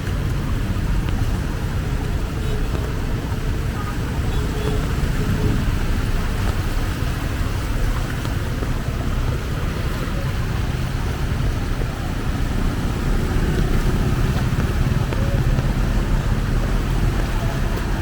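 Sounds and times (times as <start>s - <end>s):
heavy rain on a flooded street: 0.0s - 18.0s
vehicle engine rumbling: 0.0s - 18.0s.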